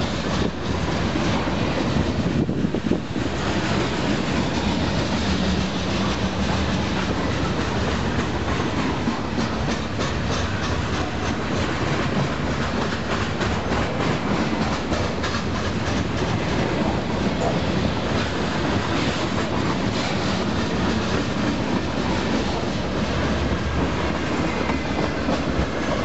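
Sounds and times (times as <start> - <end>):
train wheels rumbling on rails: 0.0 - 26.0
wheels clacking over rail joints: 0.0 - 26.0.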